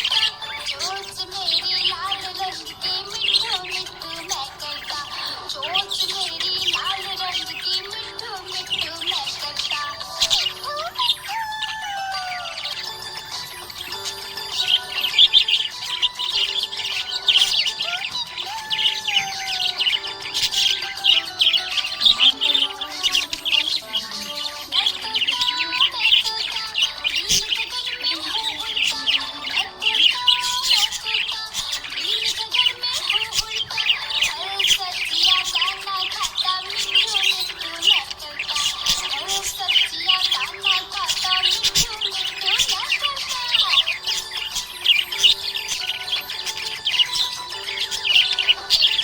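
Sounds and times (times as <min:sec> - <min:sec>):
budgerigars chirping and chattering: 0:00.0 - 0:49.0.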